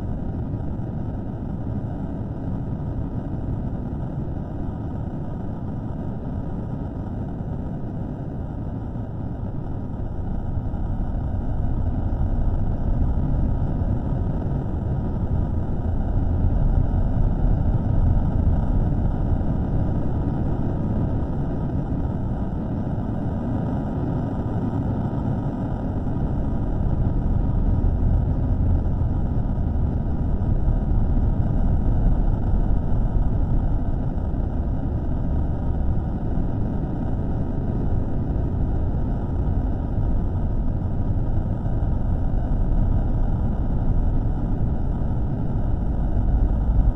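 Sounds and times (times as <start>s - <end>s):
low rumbling noise: 0.0s - 46.9s.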